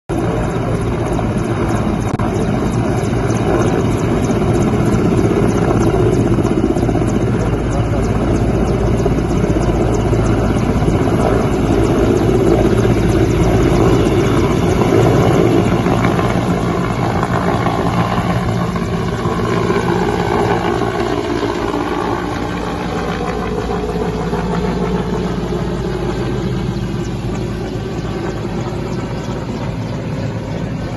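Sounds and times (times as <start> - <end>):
helicopter rotor and engines: 0.0 - 30.9.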